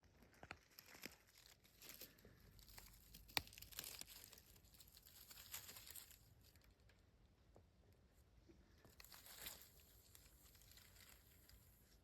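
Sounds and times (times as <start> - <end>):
faint rustling and crackling: 0.0 - 12.0.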